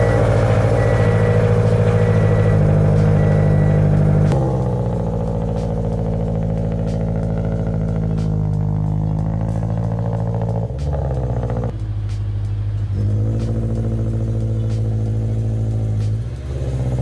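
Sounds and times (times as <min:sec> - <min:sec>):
boxer engine idling: 0:00.0 - 0:17.0.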